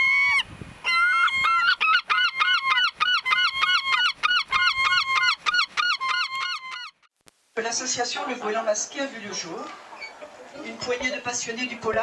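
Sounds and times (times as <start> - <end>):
gulls calling: 0.0 - 7.1, 8.0 - 12.0.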